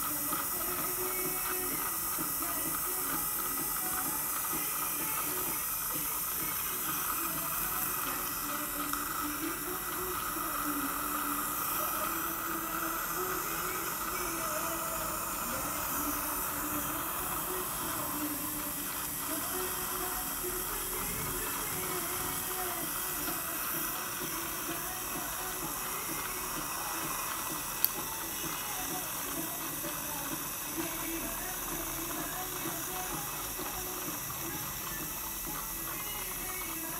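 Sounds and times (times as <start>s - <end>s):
dental suction hissing: 0.0s - 36.9s.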